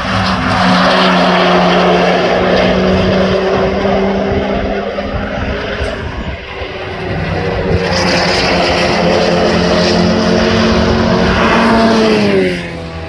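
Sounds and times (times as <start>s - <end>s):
race car engines at high revs: 0.0s - 13.0s.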